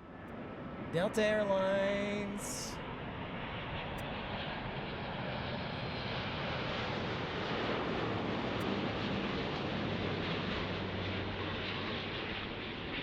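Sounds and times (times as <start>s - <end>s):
jet airliner passing: 1.2s - 13.0s.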